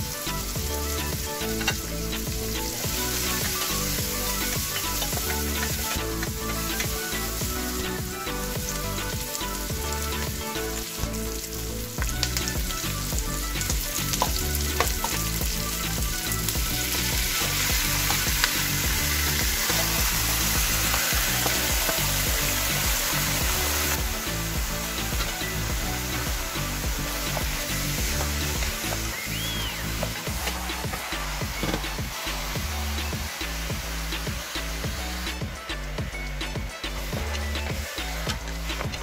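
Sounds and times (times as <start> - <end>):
onions sizzling in hot oil: 0.0 - 36.4, 37.0 - 39.0
meat hissing in hot pan: 0.1 - 11.8, 12.4 - 35.4.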